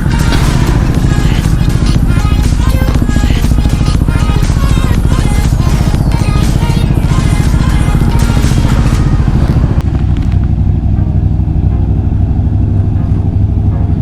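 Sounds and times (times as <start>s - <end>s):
background music: 0.0s - 14.0s
motorcycle engine drone: 0.0s - 14.0s.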